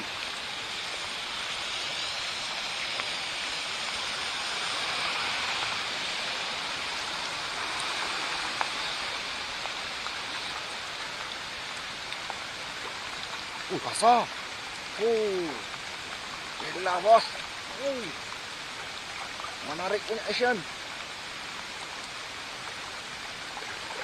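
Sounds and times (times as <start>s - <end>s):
rain hissing: 0.0s - 24.0s
running floodwater: 0.0s - 24.0s.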